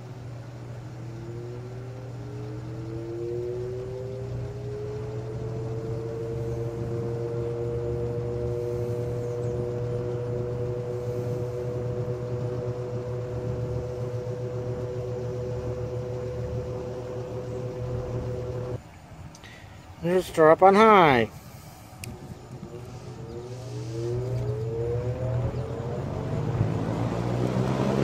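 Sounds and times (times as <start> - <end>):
box fan motor hum: 0.0 - 28.0.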